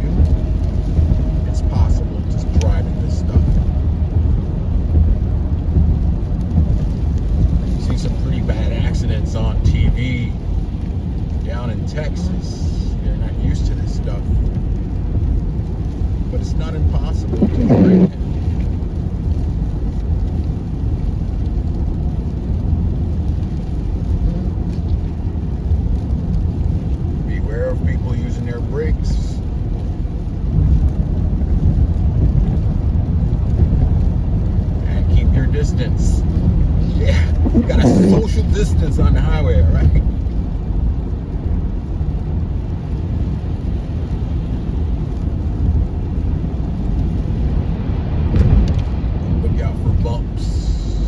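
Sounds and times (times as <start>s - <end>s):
car engine running: 0.0s - 27.9s, 28.6s - 43.4s
tyre and road noise: 0.0s - 51.0s.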